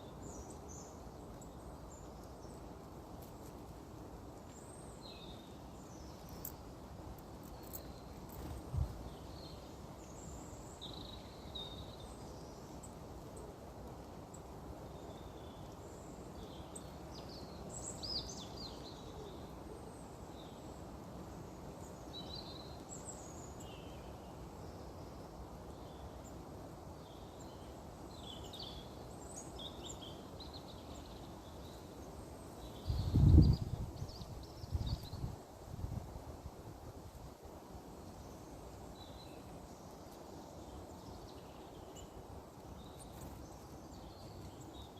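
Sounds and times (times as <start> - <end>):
small birds chirping: 0.0 - 26.4, 27.0 - 35.6, 38.0 - 44.9.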